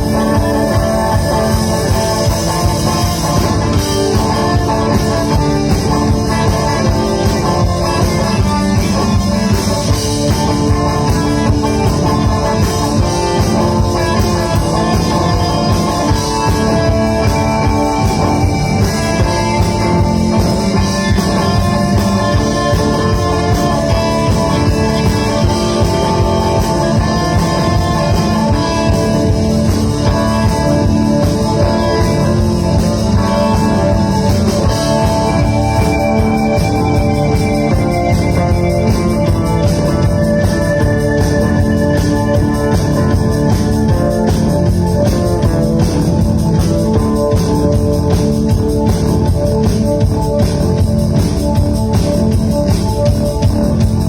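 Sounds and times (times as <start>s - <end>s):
rock band playing instrumental: 0.0s - 54.0s.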